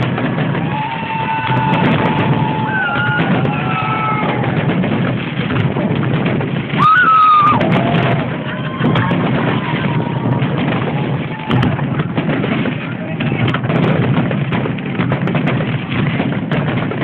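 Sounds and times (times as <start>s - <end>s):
crowd noise: 0.0s - 17.0s.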